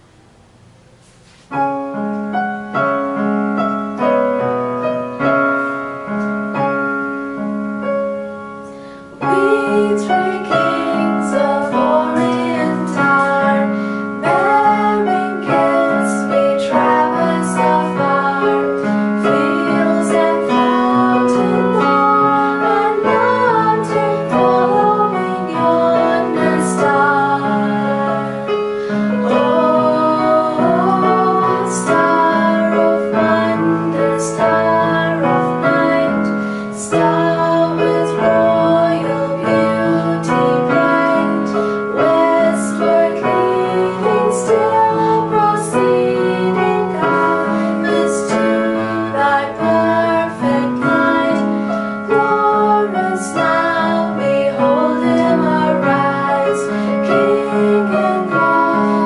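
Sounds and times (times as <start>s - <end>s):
electronic keyboard piano: 1.5s - 59.0s
girls singing: 9.2s - 59.0s.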